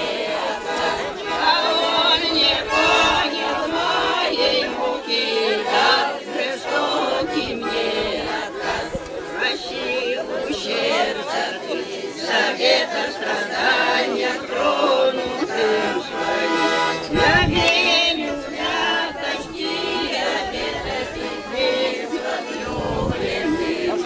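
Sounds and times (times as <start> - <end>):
group singing in chorus: 0.0 - 24.0.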